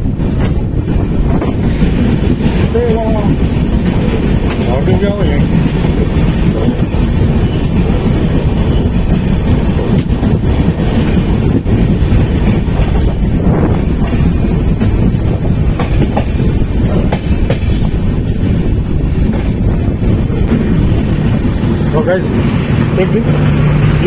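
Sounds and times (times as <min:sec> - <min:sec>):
train rumbling on rails: 0:00.0 - 0:24.0
wheels clacking over rail joints: 0:00.0 - 0:24.0.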